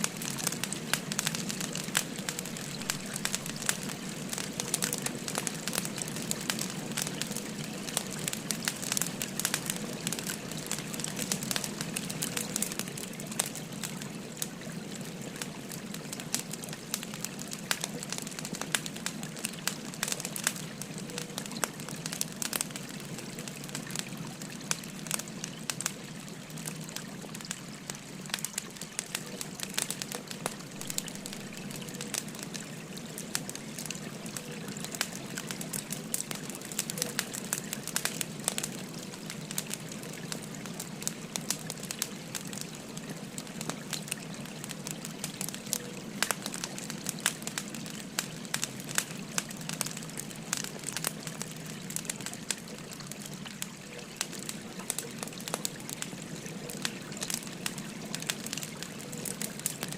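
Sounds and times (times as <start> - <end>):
babbling river stream: 0.0 - 59.9
wood fire crackling: 0.0 - 59.9.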